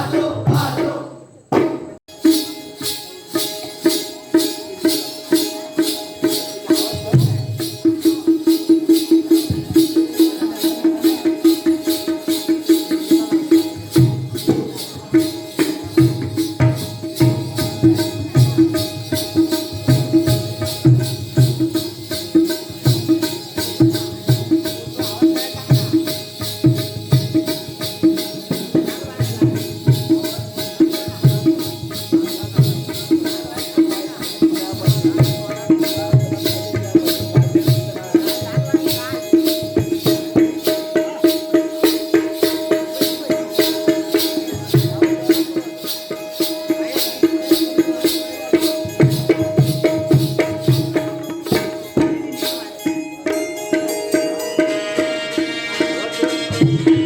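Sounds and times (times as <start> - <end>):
drum playing patterns: 0.0 - 57.0
hand cymbals jingling: 2.1 - 57.0.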